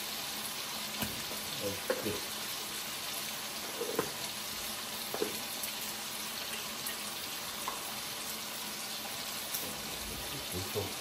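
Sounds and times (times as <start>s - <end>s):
meat sizzling in a wok: 0.0s - 11.0s.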